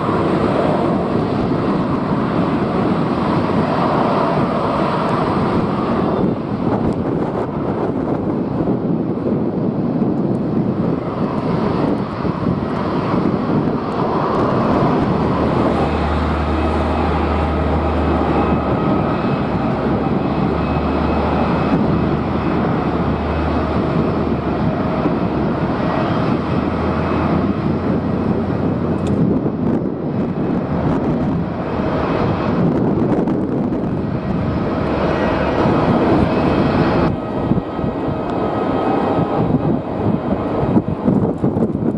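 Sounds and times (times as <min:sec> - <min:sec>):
jet engines rumbling and whining: 0:00.0 - 0:41.9
wind buffeting microphone: 0:00.0 - 0:41.9.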